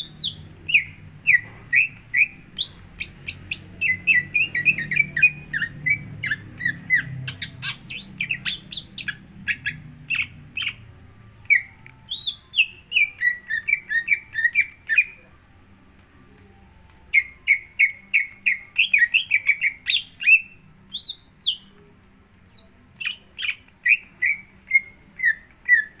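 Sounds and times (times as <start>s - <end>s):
bird chirping song: 0.0s - 15.3s, 16.9s - 26.0s.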